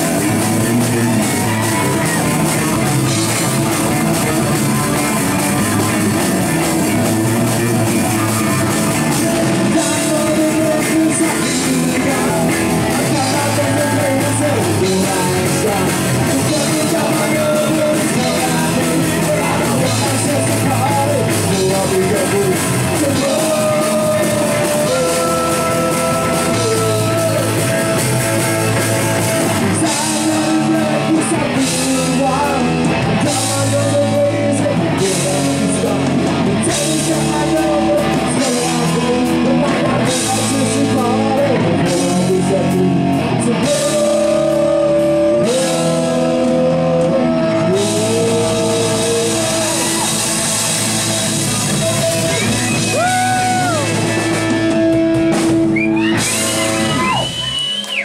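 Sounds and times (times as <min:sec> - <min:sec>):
man singing: 0:00.0 - 0:57.3
bass guitar: 0:00.0 - 0:58.0
distorted electric guitar: 0:00.0 - 0:58.0.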